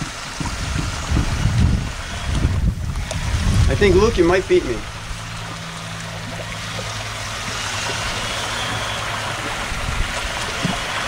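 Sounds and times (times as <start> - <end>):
water churning and splashing: 0.0 - 11.0
high electric motor whine: 1.6 - 11.0.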